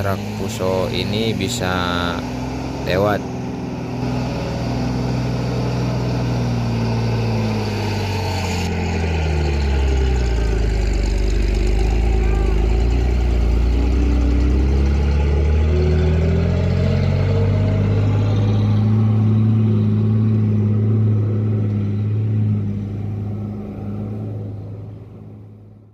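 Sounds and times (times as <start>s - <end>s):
truck diesel engine labouring: 0.0s - 25.9s.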